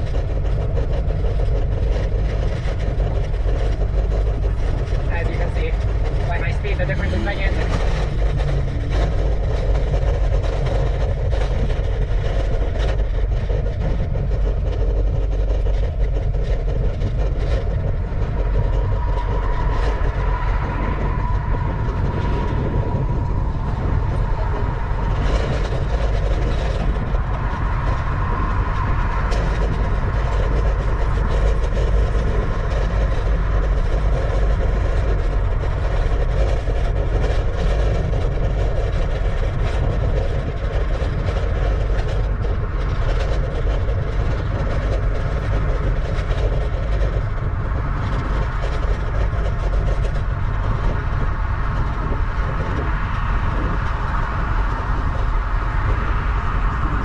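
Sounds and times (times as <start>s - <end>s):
tyre and road noise: 0.0s - 57.0s
wind buffeting microphone: 0.0s - 57.0s.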